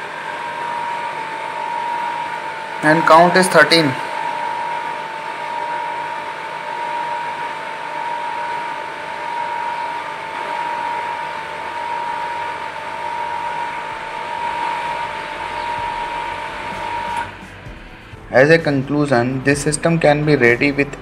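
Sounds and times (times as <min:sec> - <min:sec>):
pump motor whining: 0:00.0 - 0:21.0.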